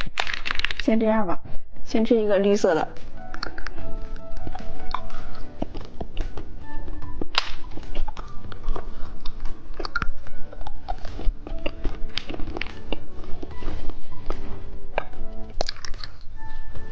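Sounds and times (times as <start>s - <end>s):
chewing and crunching candy: 0.0s - 0.9s, 3.2s - 16.9s.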